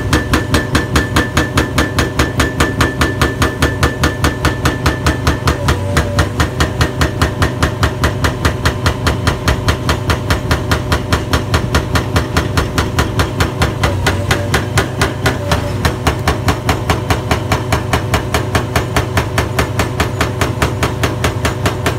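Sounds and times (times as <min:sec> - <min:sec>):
excavator engine running: 0:00.0 - 0:21.9
hydraulic breaker hammering concrete: 0:00.0 - 0:21.9.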